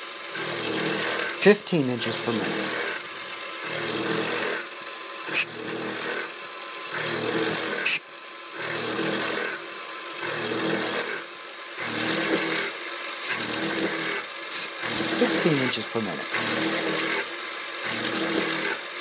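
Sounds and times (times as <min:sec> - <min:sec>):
end mill cutting metal: 0:00.2 - 0:08.0, 0:08.6 - 0:09.6, 0:10.2 - 0:11.2, 0:11.8 - 0:19.0.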